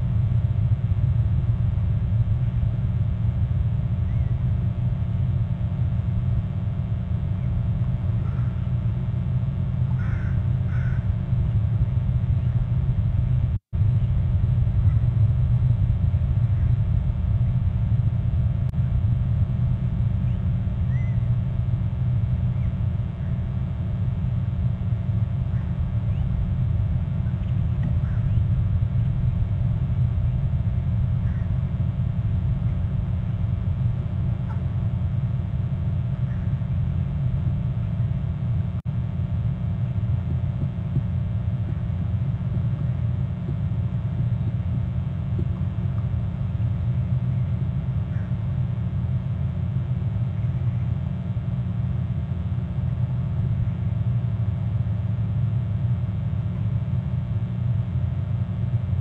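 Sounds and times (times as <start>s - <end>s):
low background rumble: 0.0s - 59.0s.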